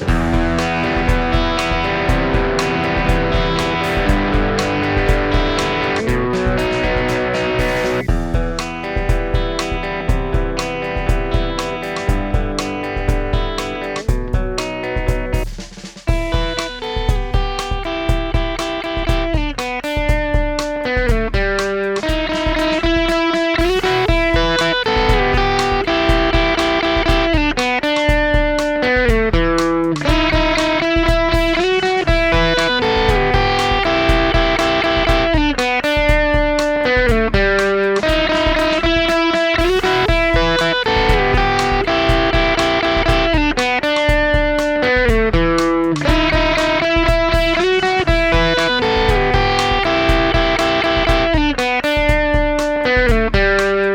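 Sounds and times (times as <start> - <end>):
electric guitar riff: 0.0 - 53.9.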